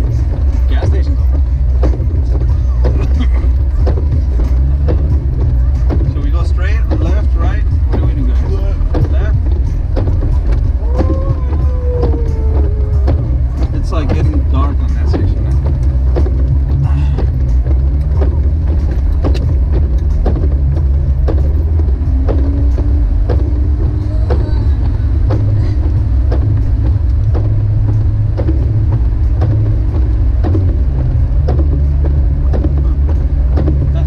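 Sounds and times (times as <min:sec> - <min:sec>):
car engine and road drone: 0:00.0 - 0:34.0.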